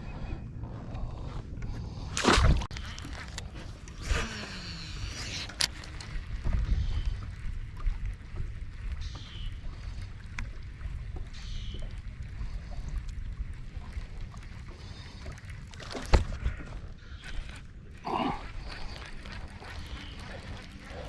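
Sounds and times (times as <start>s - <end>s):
water around boat: 0.0s - 21.0s
wind rumbling on microphone: 0.0s - 21.0s.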